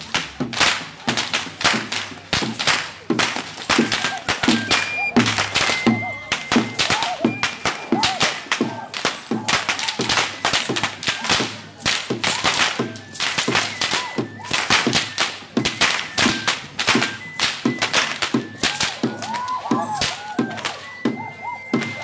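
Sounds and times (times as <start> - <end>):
whips cracking loudly: 0.0 - 21.0.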